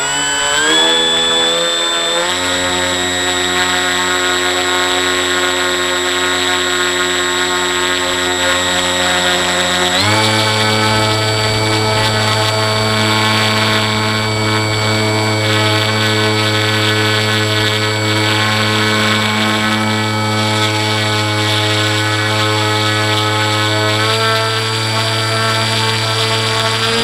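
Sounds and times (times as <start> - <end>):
electric motor and propeller whine: 0.0 - 27.0.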